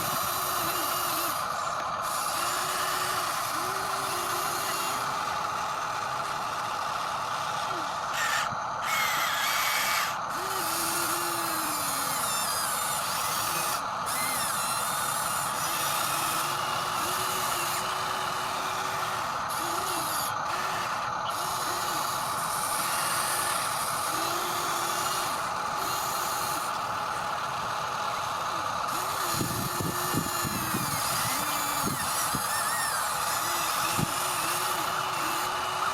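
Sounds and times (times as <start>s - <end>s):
toy electric motors whining: 0.0s - 35.9s.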